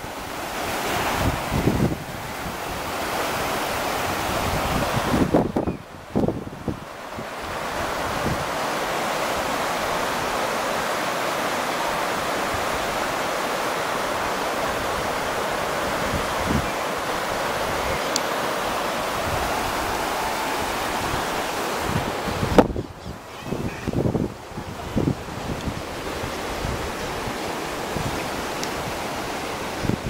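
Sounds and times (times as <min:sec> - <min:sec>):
river rushing over rapids: 0:00.0 - 0:30.0.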